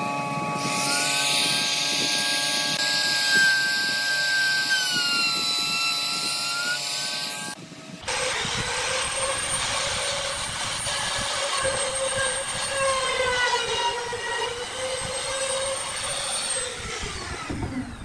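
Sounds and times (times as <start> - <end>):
router motor whine cutting wood: 0.0 - 18.0.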